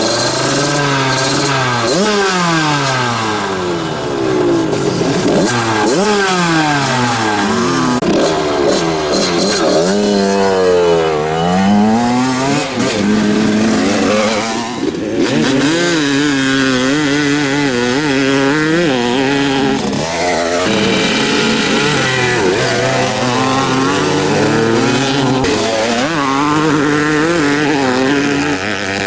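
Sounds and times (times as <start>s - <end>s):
motocross engines revving: 0.0s - 29.0s.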